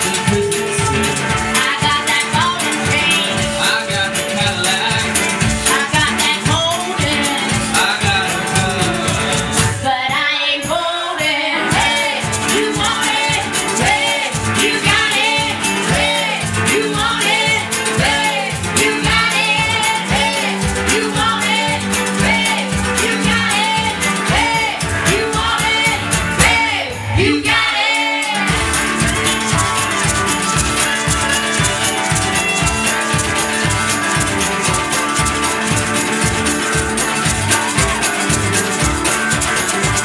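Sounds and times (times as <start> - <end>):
woman singing: 0.0 - 36.0
country band playing: 0.0 - 40.0.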